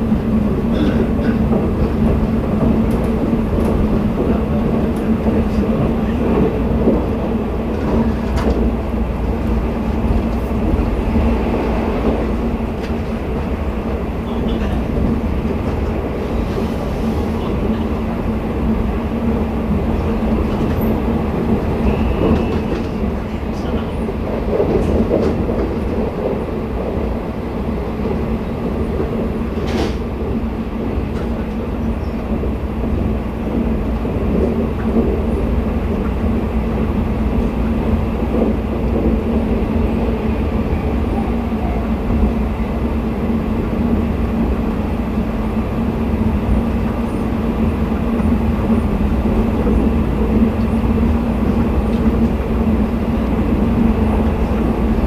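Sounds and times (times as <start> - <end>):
train coach rumbling on rails: 0.0 - 55.0.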